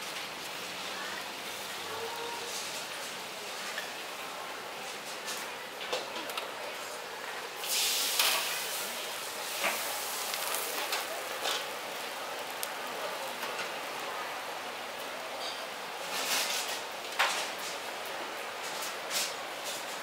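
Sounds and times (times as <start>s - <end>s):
food sizzling in a wok: 0.0s - 5.6s, 6.9s - 18.7s.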